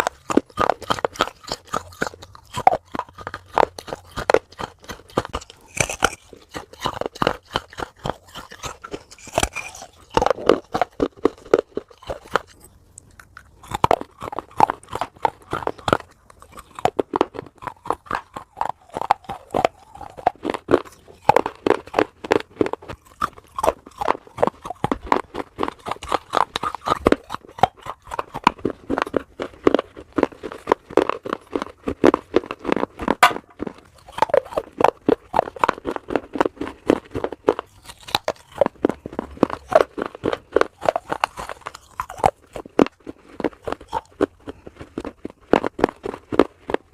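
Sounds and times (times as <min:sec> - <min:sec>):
chewing crunchy food: 0:00.0 - 0:46.9.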